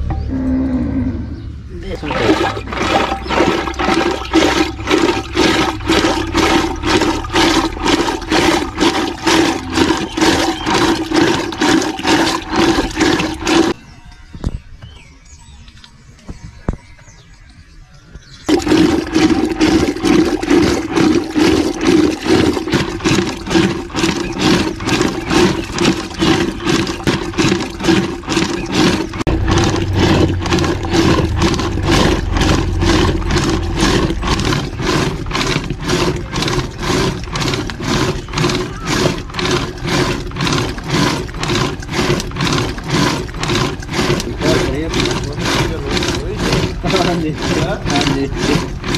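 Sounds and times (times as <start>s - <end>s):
milk sloshing in churn: 1.8s - 13.8s, 18.5s - 48.9s.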